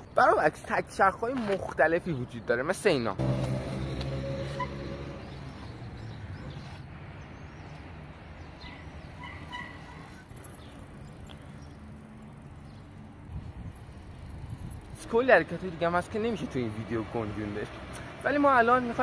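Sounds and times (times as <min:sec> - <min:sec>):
low street rumble: 0:02.3 - 0:19.0.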